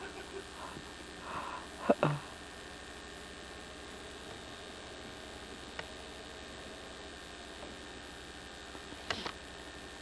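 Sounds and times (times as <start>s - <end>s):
camcorder electrical hum and hiss: 0.0s - 10.0s.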